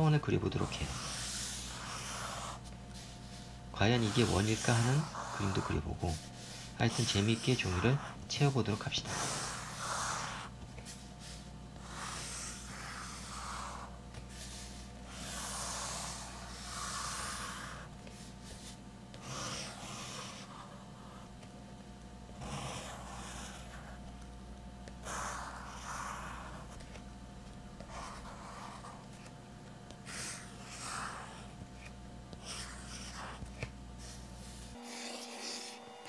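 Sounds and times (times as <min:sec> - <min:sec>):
pencil scratching on paper: 0:00.0 - 0:21.3, 0:22.4 - 0:24.0, 0:25.0 - 0:27.0, 0:27.8 - 0:29.3, 0:30.0 - 0:35.8.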